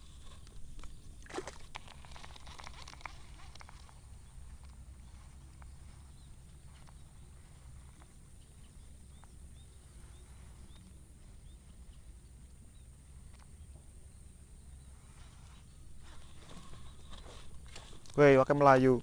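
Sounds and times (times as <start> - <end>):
small chirps: 0.0 - 18.2.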